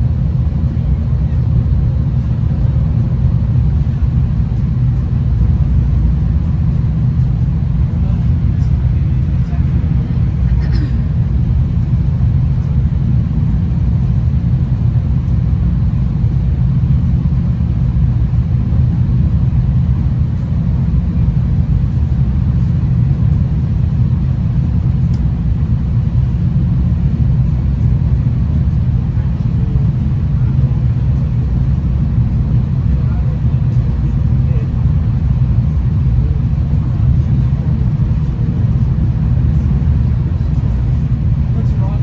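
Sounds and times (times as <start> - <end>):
diesel train rumbling: 0.0 - 42.0.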